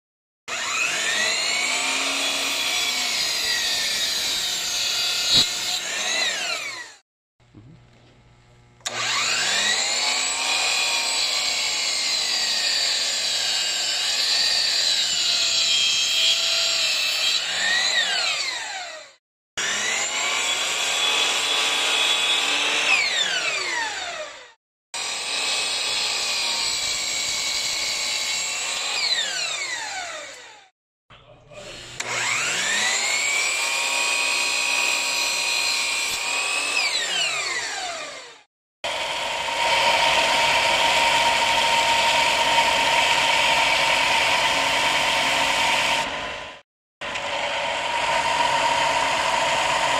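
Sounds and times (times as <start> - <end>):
miter saw motor and blade whine: 0.5 - 7.0, 8.8 - 30.7, 31.6 - 49.9
saw blade winding down: 0.5 - 7.0, 8.8 - 30.7, 31.5 - 49.9.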